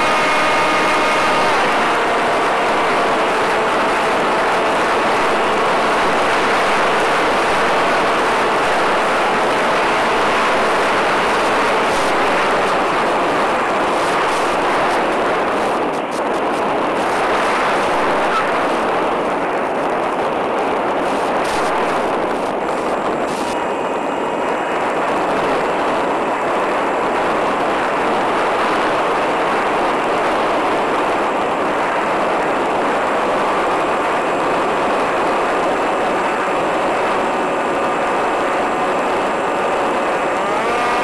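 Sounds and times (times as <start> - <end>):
steady radio rushing noise: 0.0 - 41.0.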